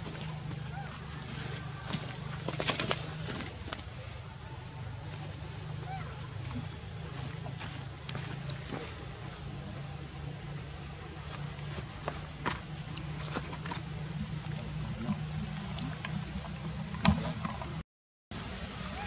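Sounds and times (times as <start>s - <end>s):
forest insects droning: 0.0s - 19.0s.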